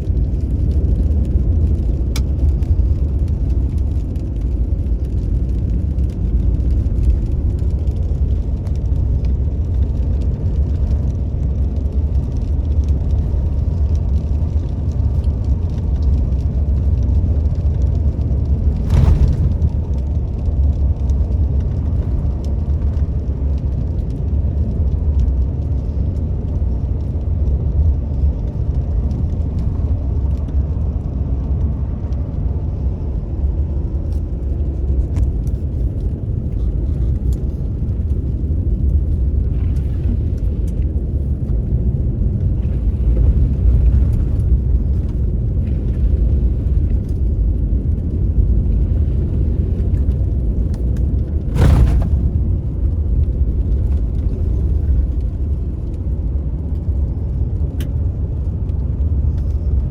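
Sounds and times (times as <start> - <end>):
car interior road noise: 0.0 - 59.9.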